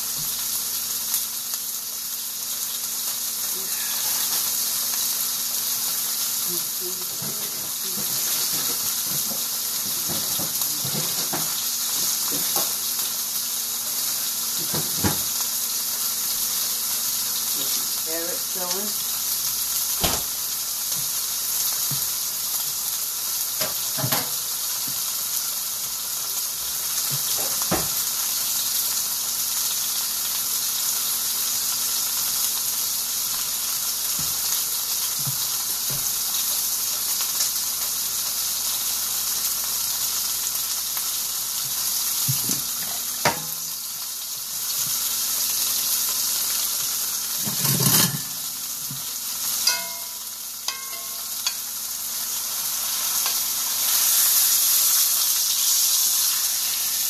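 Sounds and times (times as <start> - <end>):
meat sizzling in a skillet: 0.0 - 57.0.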